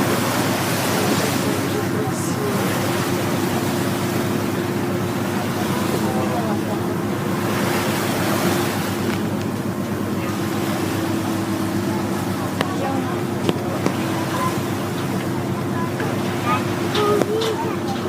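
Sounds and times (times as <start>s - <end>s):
boat engine droning: 0.0s - 18.0s
rushing sea water: 0.0s - 18.0s
wind: 0.0s - 18.0s.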